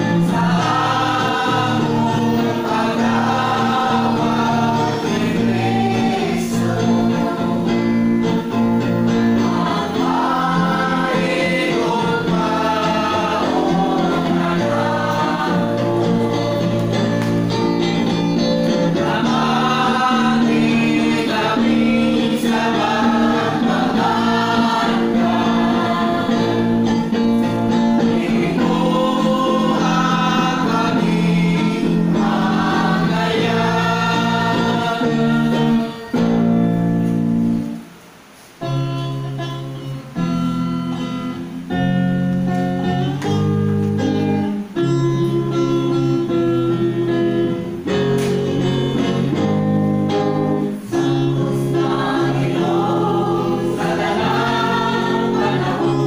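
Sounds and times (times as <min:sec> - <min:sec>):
instrumental backing: 0:00.0 - 0:56.0.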